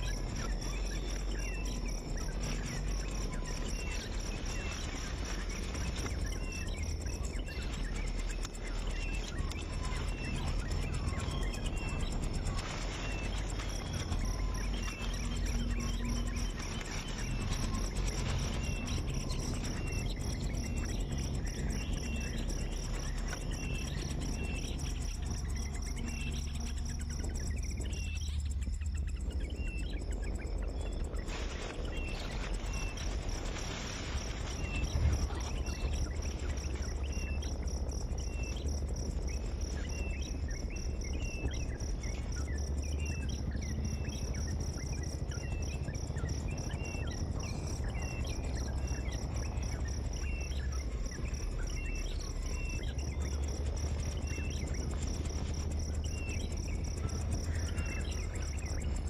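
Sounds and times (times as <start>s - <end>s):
insects calling high pitch: 0.0s - 59.0s
low rumble: 0.0s - 59.0s
short insect chirps: 0.0s - 59.0s.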